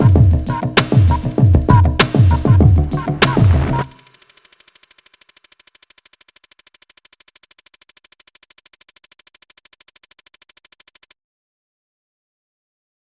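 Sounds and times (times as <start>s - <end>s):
electronic music: 0.0s - 11.2s
fast synthesizer pulse: 0.0s - 11.2s.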